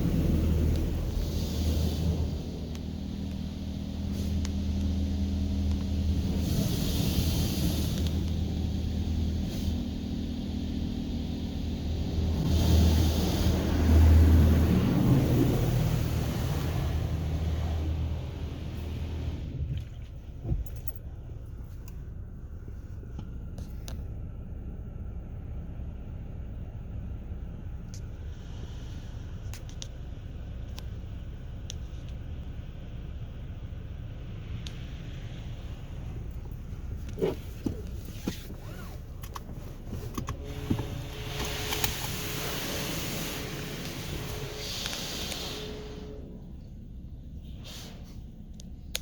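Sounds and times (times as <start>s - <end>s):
car wash low rumble: 0.0s - 49.0s.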